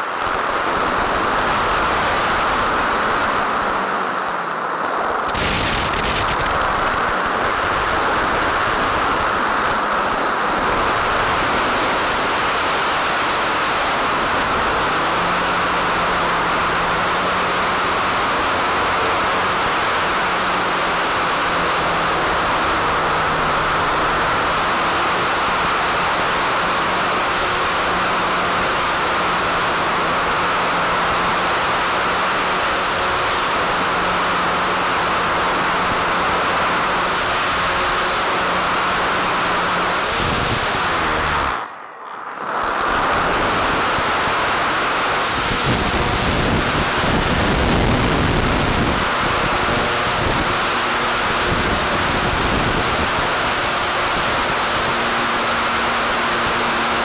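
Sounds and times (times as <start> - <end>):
electric motor driving propeller: 0.0 - 57.0.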